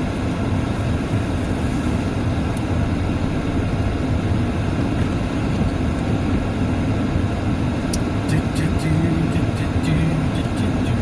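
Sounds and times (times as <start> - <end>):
car road and engine noise: 0.0 - 11.0
heater fan blowing: 0.0 - 11.0.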